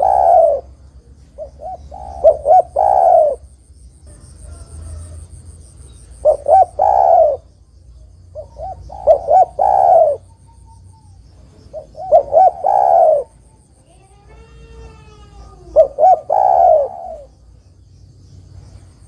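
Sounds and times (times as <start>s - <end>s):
dove cooing: 0.0s - 7.6s, 8.3s - 17.4s.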